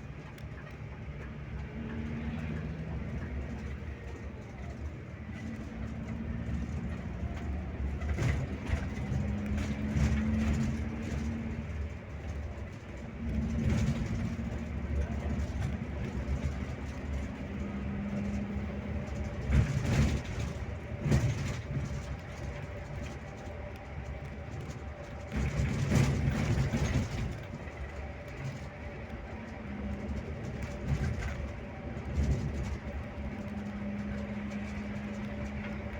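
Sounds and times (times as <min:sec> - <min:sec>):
coach engine and road noise: 0:00.0 - 0:35.9
knocks and rattles: 0:02.5 - 0:35.9.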